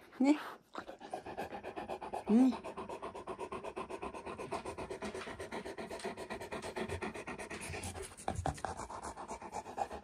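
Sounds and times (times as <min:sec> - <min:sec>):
dog panting fast: 0:00.0 - 0:10.0.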